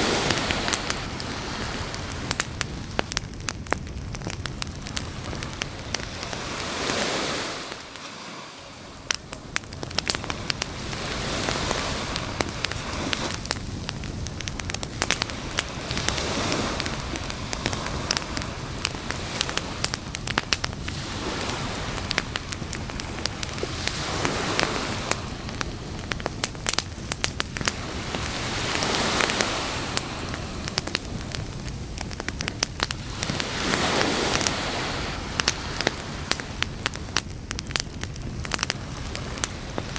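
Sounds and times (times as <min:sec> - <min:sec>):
campfire crackling and popping: 0:00.0 - 0:39.9
waves washing on beach: 0:00.0 - 0:39.9.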